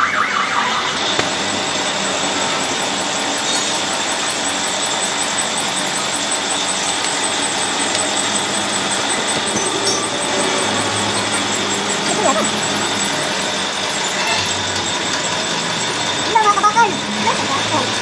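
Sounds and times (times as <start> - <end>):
high squealing tone: 0.0 - 18.0
machine running with dense noise: 0.0 - 18.0.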